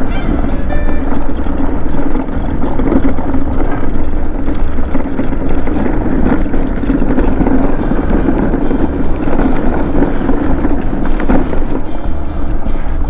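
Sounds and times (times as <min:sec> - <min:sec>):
scooter engine rumble: 0:00.0 - 0:13.0
wind buffeting microphone: 0:00.0 - 0:13.0.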